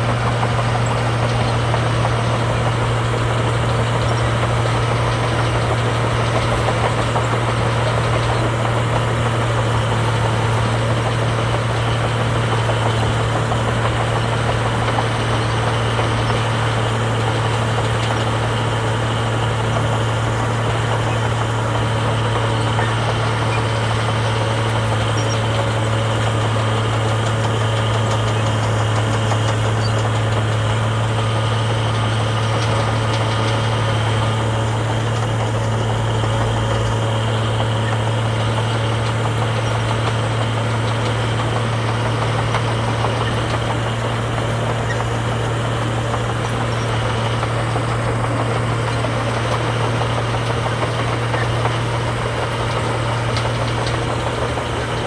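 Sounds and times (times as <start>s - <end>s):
heavy diesel engine humming: 0.0s - 55.0s.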